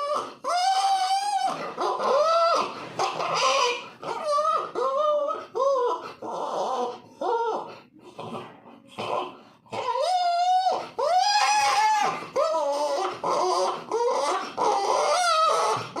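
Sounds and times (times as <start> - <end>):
puppy whining and crying: 0.0 - 7.9, 9.7 - 16.0.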